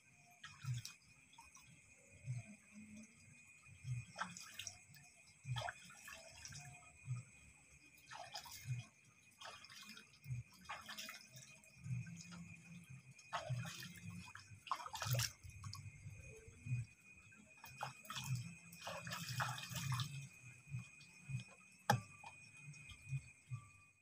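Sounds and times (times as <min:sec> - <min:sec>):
water splashing and dripping: 0:00.3 - 0:23.7.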